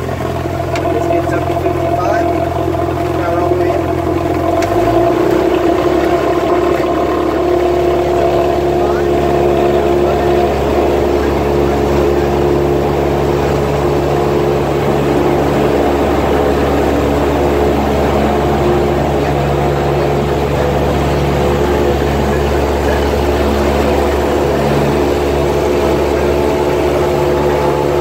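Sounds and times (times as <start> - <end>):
propeller airplane engine running: 0.0 - 28.0.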